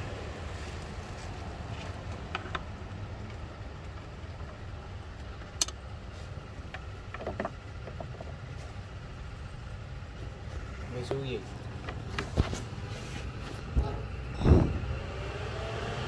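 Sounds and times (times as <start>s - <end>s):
engine idling: 0.0s - 15.7s.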